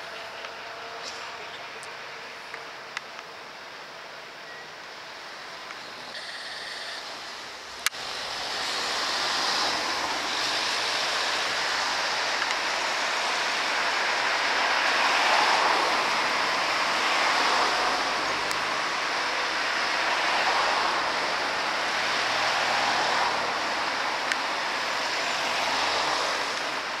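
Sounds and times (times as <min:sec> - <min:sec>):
road traffic on busy street: 0:00.0 - 0:27.0.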